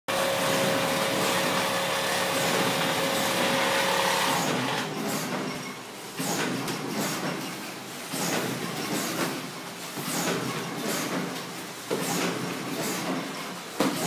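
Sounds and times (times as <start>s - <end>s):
packing machine running: 0.1s - 14.0s.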